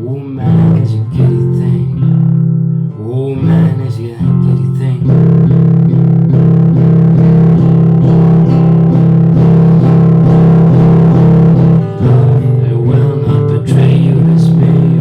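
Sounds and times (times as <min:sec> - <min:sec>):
fast picked guitar: 0:00.0 - 0:15.0
sustained low bass notes: 0:00.0 - 0:15.0.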